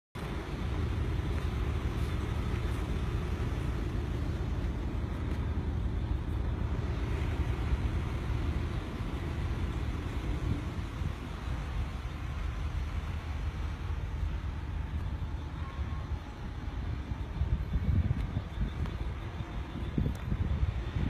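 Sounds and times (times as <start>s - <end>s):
wind buffeting microphone: 0.2s - 21.0s.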